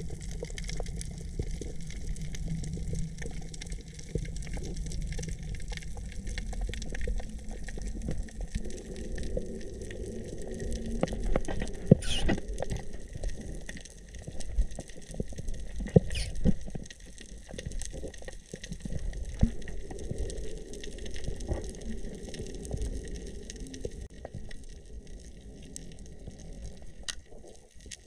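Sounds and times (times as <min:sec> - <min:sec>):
scattered clicks and crackles: 0:00.0 - 0:28.0
underwater water movement: 0:00.0 - 0:28.0.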